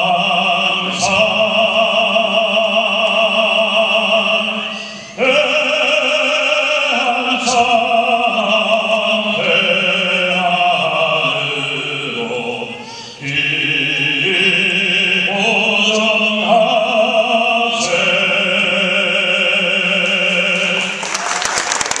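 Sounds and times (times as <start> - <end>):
man singing into a microphone: 0.0 - 21.1.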